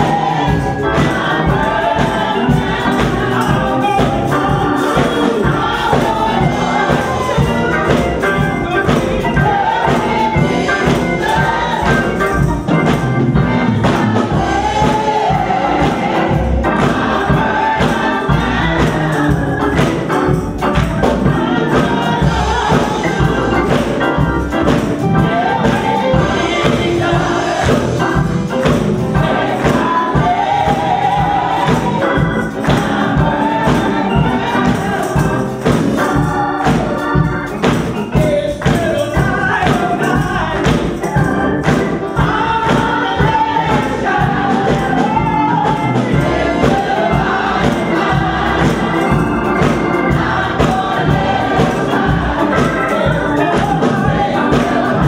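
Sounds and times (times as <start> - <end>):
choir singing gospel: 0.0 - 55.0
percussion beat: 0.0 - 55.0.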